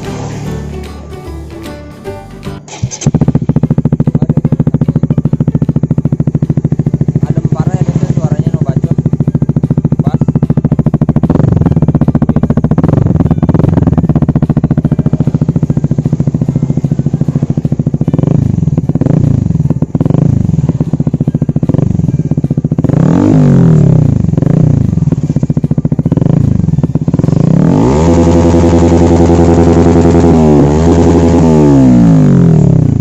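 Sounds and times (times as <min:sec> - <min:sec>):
motorcycle engine revving: 0:00.0 - 0:01.6, 0:02.5 - 0:33.0.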